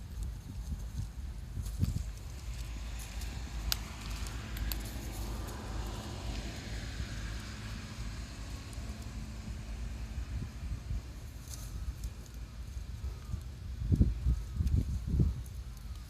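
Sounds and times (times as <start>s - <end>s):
vehicle passing hiss: 1.0s - 16.0s.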